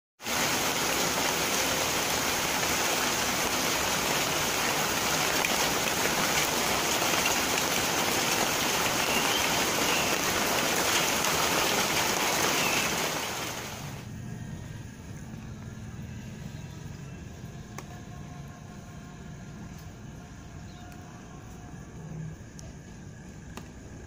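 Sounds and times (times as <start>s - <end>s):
steady rain falling: 0.2s - 14.3s, 17.4s - 24.0s.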